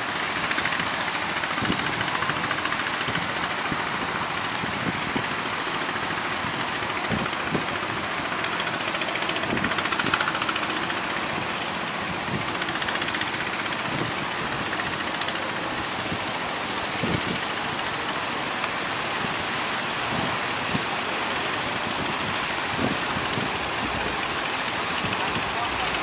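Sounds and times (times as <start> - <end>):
boat engine running: 0.0 - 26.0
surf noise: 0.0 - 26.0.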